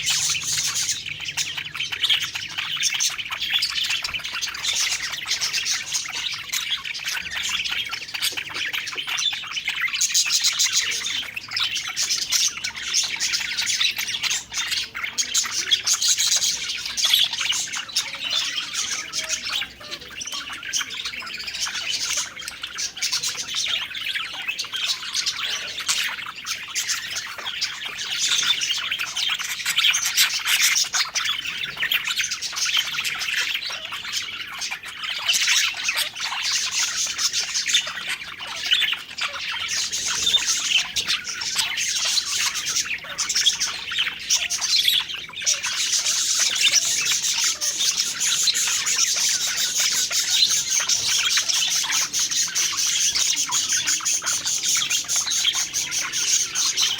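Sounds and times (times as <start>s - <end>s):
budgerigars chirping: 0.0s - 56.9s.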